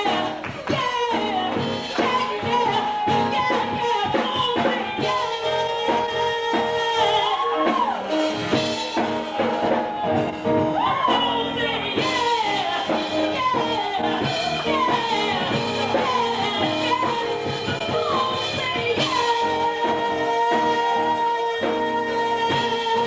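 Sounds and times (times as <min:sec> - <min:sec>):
held instrumental chords: 0:00.0 - 0:23.0
voices singing gospel: 0:00.0 - 0:23.0.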